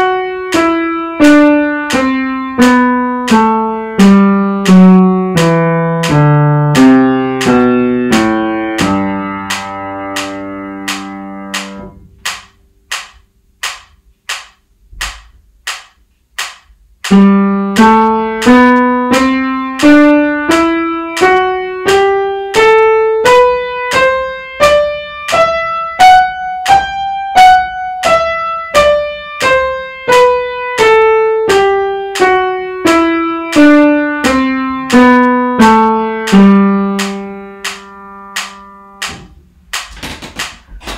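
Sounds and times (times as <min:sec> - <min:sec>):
piano playing a scale: 0:00.0 - 0:14.4, 0:17.0 - 0:39.9.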